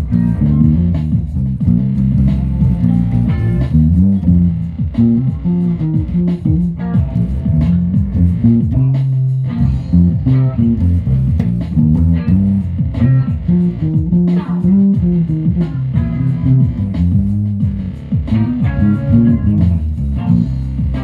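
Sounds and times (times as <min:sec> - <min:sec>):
bass guitar plucking low notes: 0:00.0 - 0:21.0
guitar: 0:00.0 - 0:21.0.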